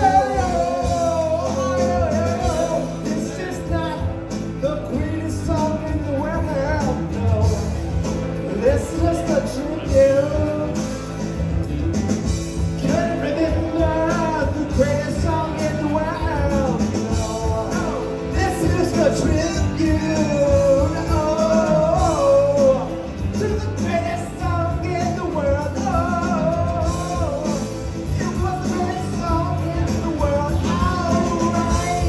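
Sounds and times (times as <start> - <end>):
man singing into microphone: 0.0 - 11.1, 12.8 - 32.0
rock backing track: 0.0 - 32.0.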